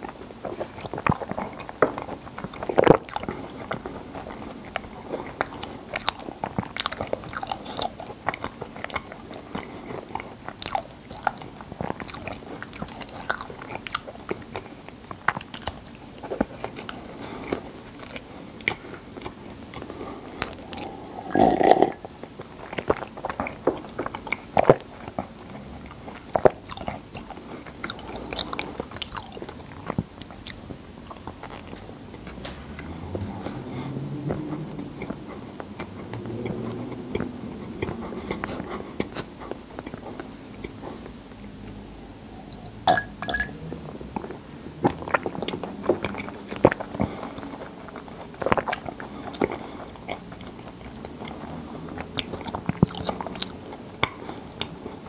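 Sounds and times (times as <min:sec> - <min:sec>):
biting and chewing bread: 0:00.0 - 0:41.8, 0:43.5 - 0:55.0.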